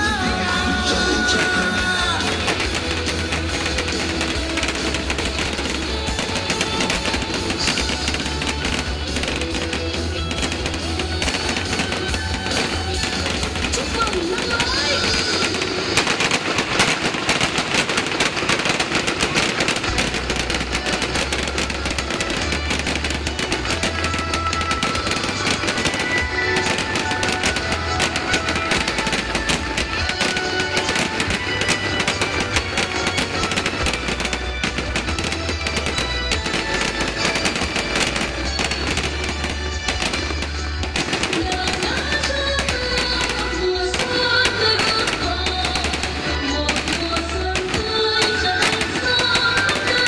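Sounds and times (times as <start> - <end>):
background music: 0.0 - 50.0
fireworks bangs and crackles: 0.0 - 50.0.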